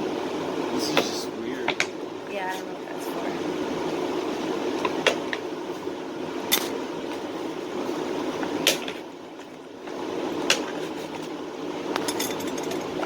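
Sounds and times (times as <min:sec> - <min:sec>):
fan-like hum: 0:00.0 - 0:13.0.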